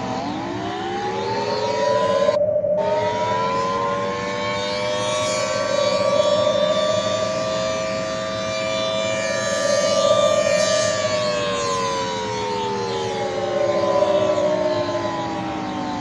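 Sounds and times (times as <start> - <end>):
warning siren winding down: 0.0 - 16.0.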